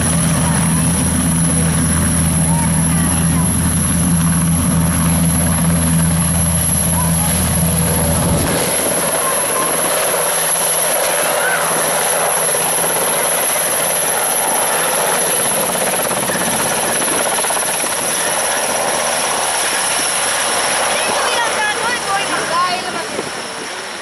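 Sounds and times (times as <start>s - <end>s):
helicopter rotor rush: 0.0s - 24.0s
high turbine whine: 0.0s - 24.0s.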